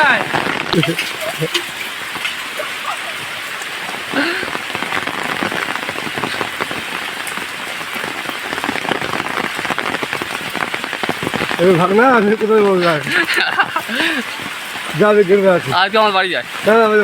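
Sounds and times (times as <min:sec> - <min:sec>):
raindrops hitting surfaces: 0:00.0 - 0:17.0
steady rain falling: 0:00.0 - 0:17.0.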